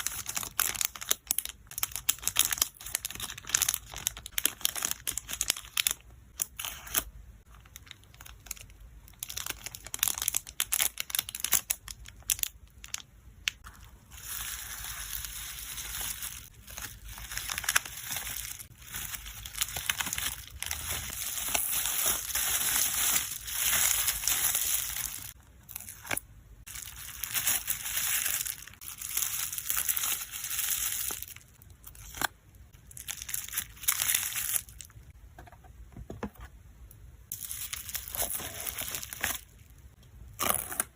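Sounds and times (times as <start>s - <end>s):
packing material crinkling: 0.0s - 34.9s, 37.3s - 39.7s.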